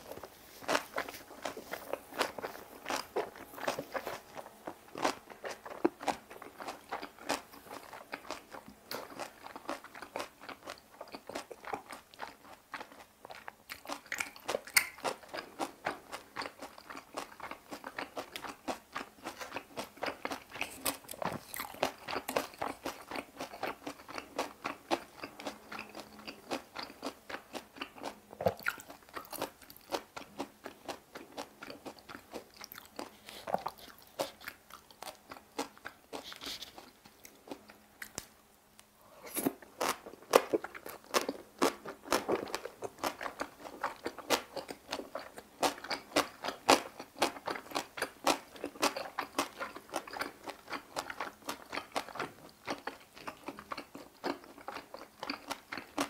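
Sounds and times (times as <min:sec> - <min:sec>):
close chewing and crunching: 0:00.0 - 0:38.3, 0:39.1 - 0:56.0.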